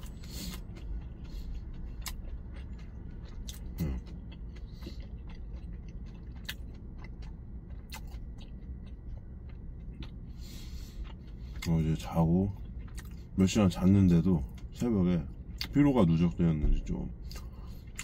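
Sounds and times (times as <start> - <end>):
chewing with mouth clicks: 0.0 - 16.4, 17.2 - 18.0
steady low hum: 0.0 - 18.0.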